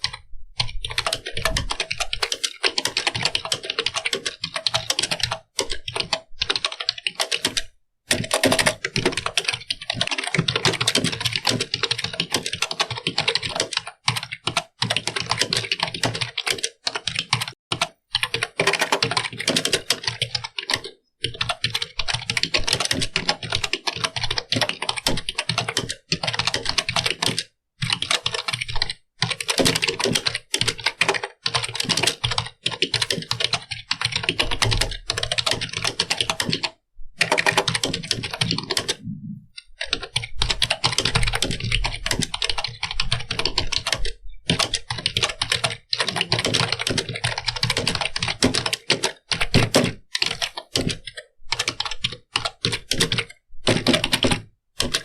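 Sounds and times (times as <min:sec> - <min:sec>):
keyboard typing: 0:00.0 - 0:55.0.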